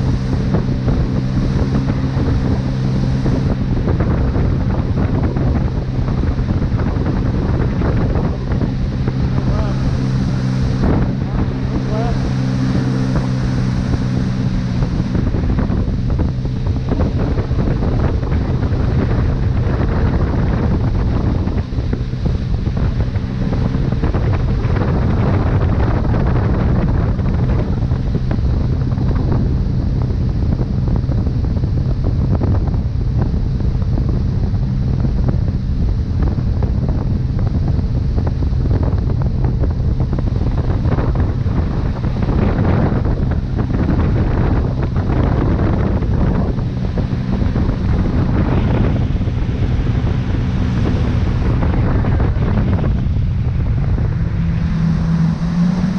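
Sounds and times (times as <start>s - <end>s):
boat engine hum: 0.0s - 55.9s
churning wake water: 0.0s - 55.9s
wind buffeting microphone: 0.0s - 55.9s.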